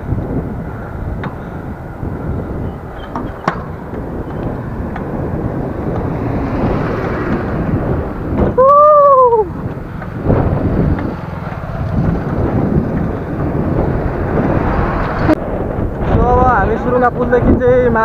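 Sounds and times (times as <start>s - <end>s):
road noise rumbling: 0.0s - 18.0s
wind buffeting microphone: 0.0s - 18.0s.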